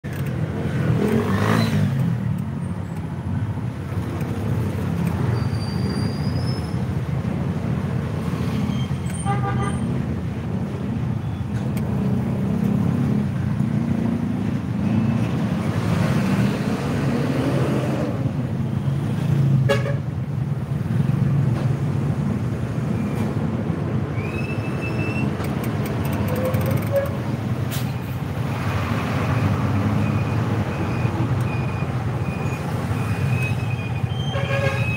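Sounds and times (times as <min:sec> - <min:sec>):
vehicle engine and road rumble: 0:00.0 - 0:34.9.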